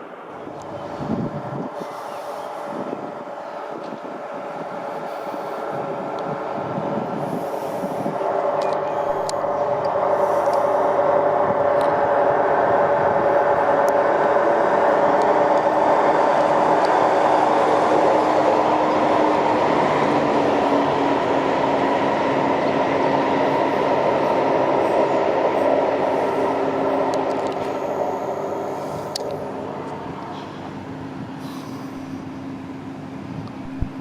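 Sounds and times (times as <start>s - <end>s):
train rumbling past: 0.0s - 34.0s.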